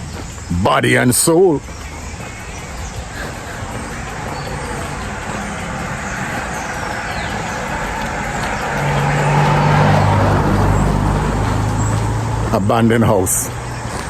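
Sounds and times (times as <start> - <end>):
road and engine noise: 0.0 - 14.0.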